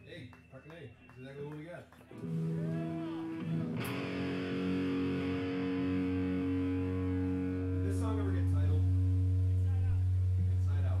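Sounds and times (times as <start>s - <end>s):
distorted electric guitars: 2.1s - 11.0s.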